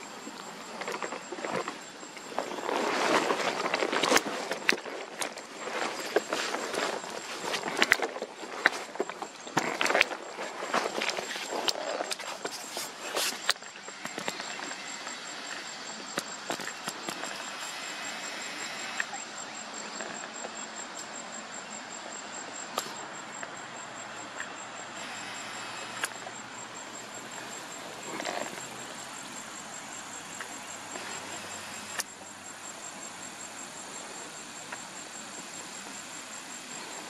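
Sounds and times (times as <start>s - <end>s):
insect pulsed calling: 0.0s - 37.0s
steady outdoor hiss: 0.0s - 37.0s.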